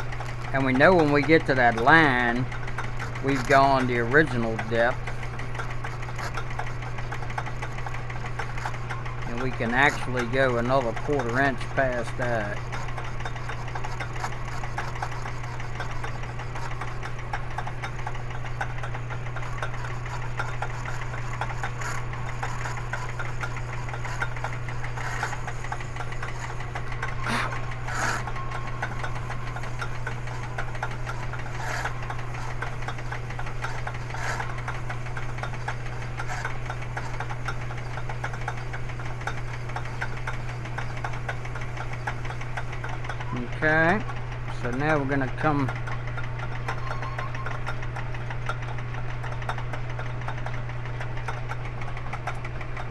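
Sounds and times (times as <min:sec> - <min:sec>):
power tool motor humming: 0:00.0 - 0:43.4
cutter ticks: 0:00.0 - 0:52.9.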